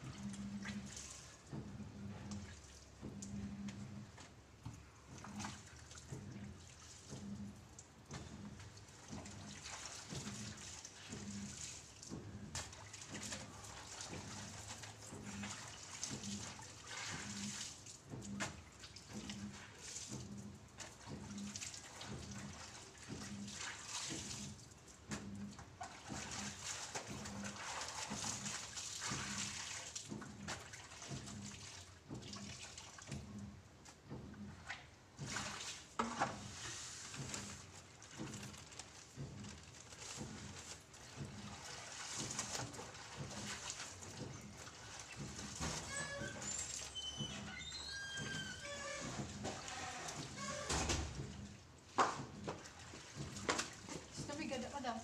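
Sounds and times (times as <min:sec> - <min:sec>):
water splashing in basin: 0:05.0 - 0:33.5, 0:34.3 - 0:55.0.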